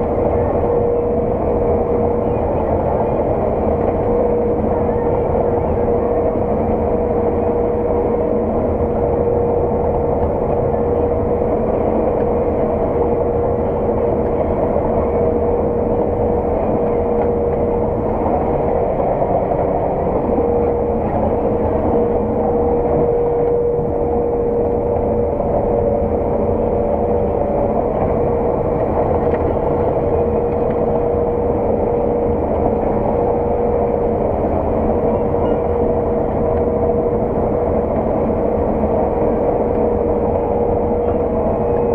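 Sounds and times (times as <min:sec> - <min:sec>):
constant high whine: 0:00.0 - 0:41.9
harvest machinery droning: 0:00.0 - 0:41.9.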